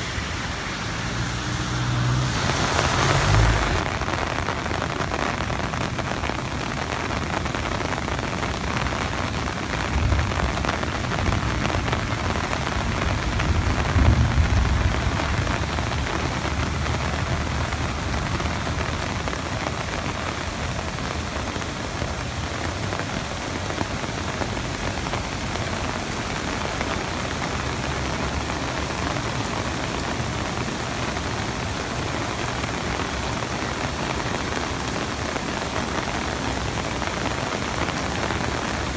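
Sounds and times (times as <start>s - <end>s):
floodwater rushing down channel: 0.0s - 38.9s
rain: 0.0s - 38.9s.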